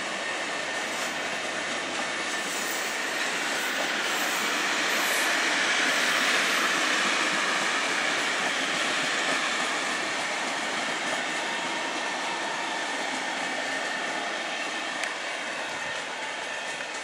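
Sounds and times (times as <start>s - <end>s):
train wheels rolling on track: 0.0s - 17.0s.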